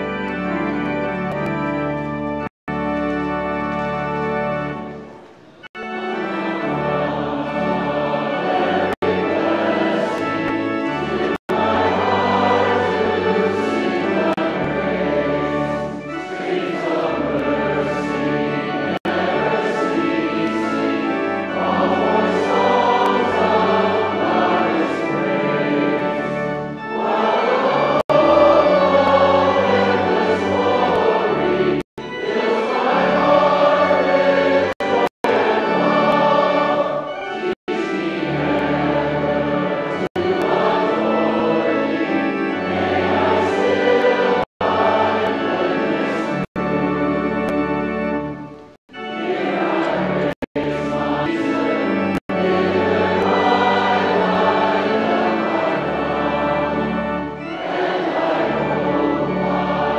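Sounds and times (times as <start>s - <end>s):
instrumental accompaniment: 0.0s - 59.9s
congregation singing a hymn: 2.9s - 59.9s.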